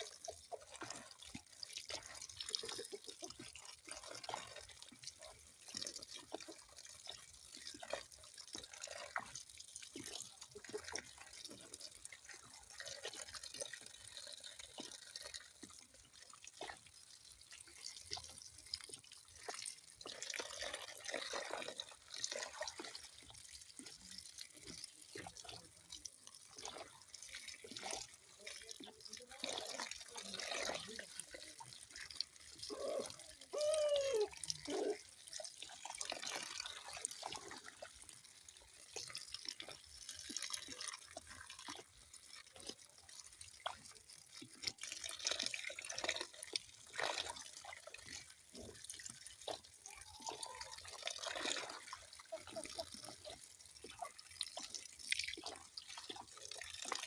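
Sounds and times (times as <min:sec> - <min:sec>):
bubbling gurgle: 0:00.0 - 0:57.0
water dripping and splashing: 0:00.0 - 0:57.0.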